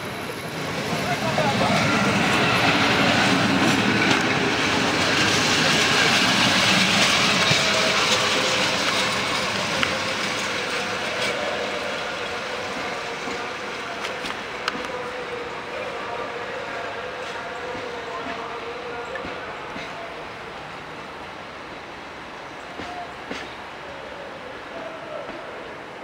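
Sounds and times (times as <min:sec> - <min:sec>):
train coaches rolling past: 0:00.0 - 0:26.0.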